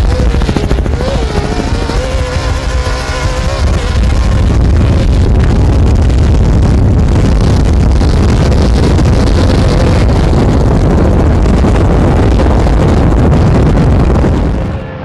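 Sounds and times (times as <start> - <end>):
truck engine running hard: 0.0 - 15.0
wind noise on microphone: 0.0 - 15.0.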